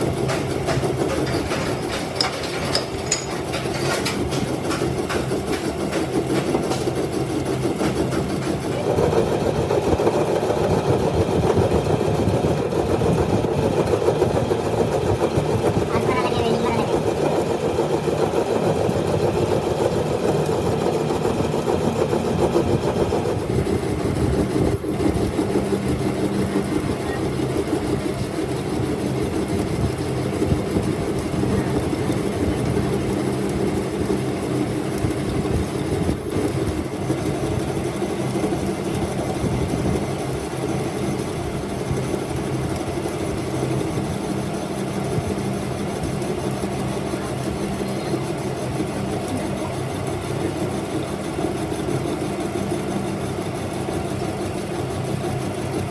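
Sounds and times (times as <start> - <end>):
workshop machinery motor hum: 0.0 - 55.9.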